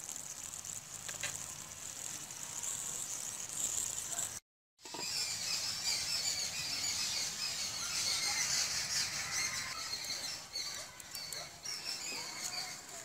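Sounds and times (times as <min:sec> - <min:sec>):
small birds chirping and squeaking: 0:00.0 - 0:13.0.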